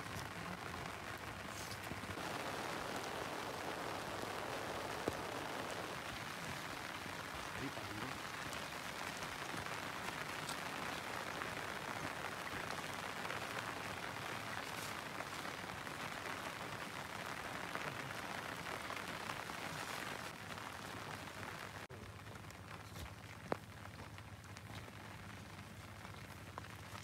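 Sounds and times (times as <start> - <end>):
light drizzle hissing: 0.0 - 27.0.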